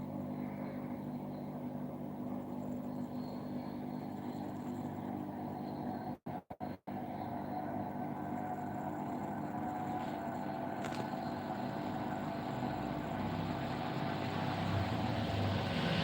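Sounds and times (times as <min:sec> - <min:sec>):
washing machine running: 0:01.6 - 0:16.0.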